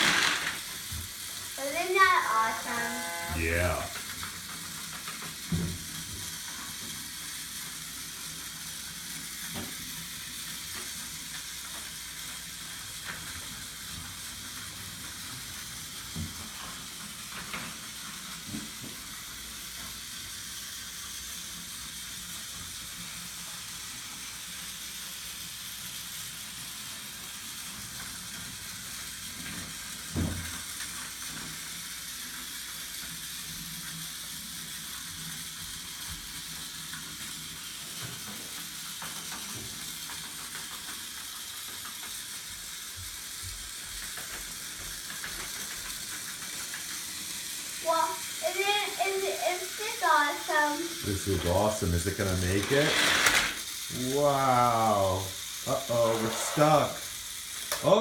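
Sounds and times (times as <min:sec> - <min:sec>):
toy train whirring on track: 0:00.0 - 0:58.0.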